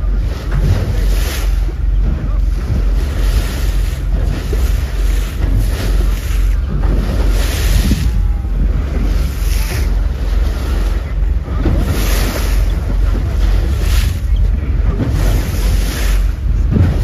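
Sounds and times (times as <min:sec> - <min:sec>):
sea water rushing along hull: 0:00.0 - 0:17.0
wind buffeting microphone: 0:00.0 - 0:17.0.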